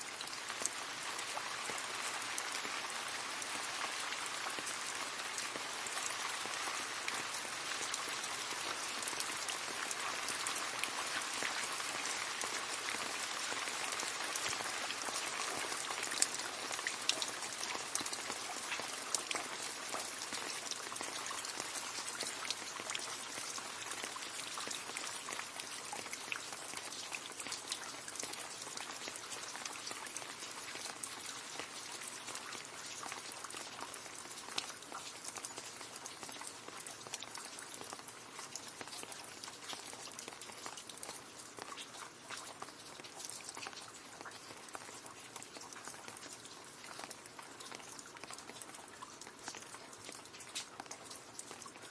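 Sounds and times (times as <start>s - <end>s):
rain falling into a puddle: 0.0s - 51.9s.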